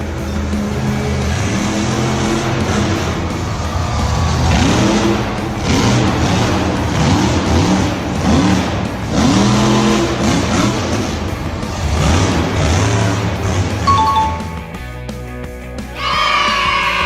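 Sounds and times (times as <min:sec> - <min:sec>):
engine revving: 0:00.0 - 0:13.9.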